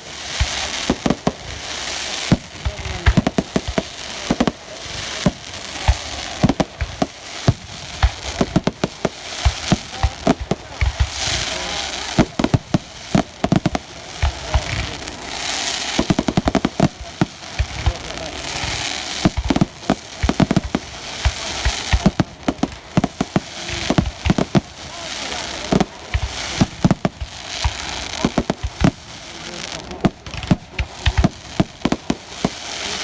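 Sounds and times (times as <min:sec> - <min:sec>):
fireworks bangs and crackles: 0:00.0 - 0:33.0
fireworks high hissing: 0:00.0 - 0:33.0.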